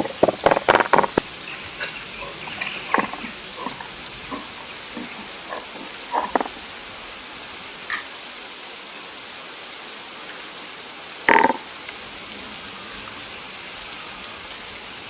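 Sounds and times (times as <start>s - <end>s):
rain falling on pond: 0.0s - 15.0s.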